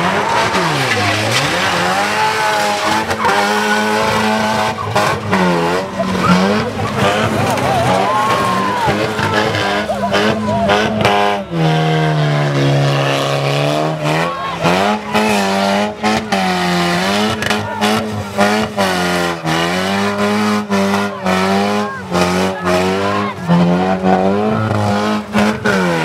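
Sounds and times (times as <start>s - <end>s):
car engines revving: 0.0s - 26.0s
tyres squealing: 0.0s - 26.0s.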